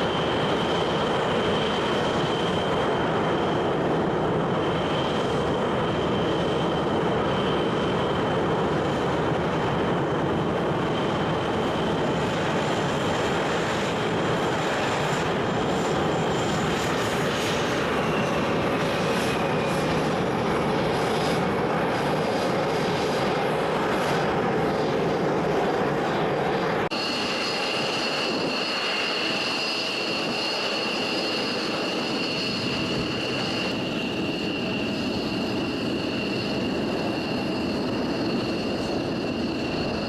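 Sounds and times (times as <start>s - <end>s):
helicopter turbine engines running: 0.0s - 40.0s.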